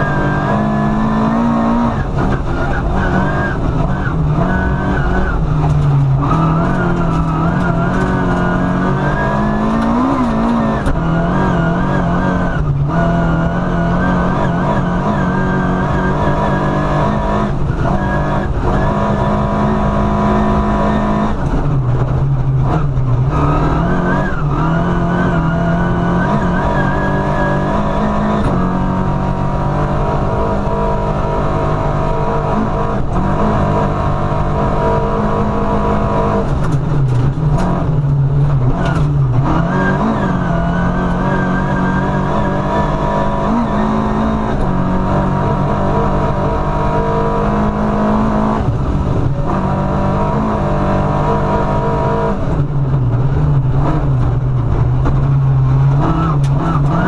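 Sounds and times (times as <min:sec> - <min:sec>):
rally car engine revving: 0:00.0 - 0:57.0
tyre and road noise: 0:00.0 - 0:57.0.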